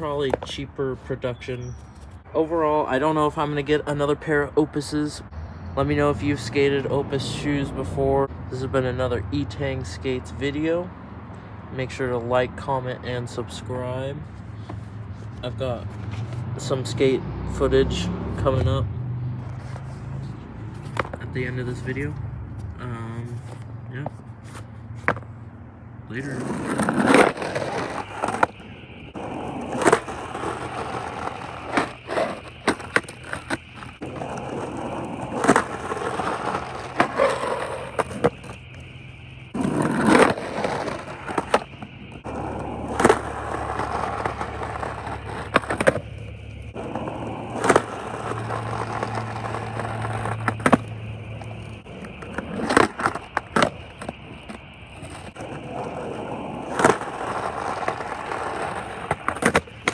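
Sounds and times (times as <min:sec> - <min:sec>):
skateboard clacking and scraping on curb: 0:00.0 - 0:59.9
skateboard wheels rolling on asphalt: 0:00.0 - 0:59.9.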